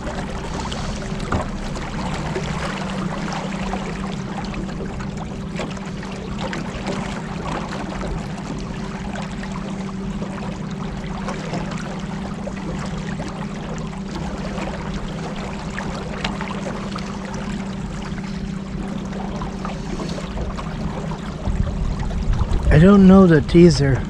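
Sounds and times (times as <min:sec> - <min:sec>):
motorboat engine humming: 0:00.0 - 0:24.0
water rushing along hull: 0:00.0 - 0:24.0.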